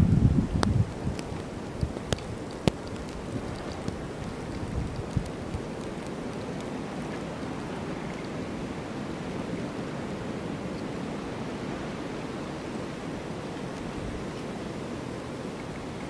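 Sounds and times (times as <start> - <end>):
strong blizzard wind: 0.0 - 16.0.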